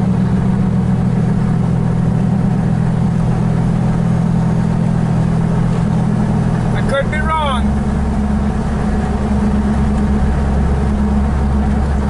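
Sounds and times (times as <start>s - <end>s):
engine idling drone: 0.0s - 12.0s.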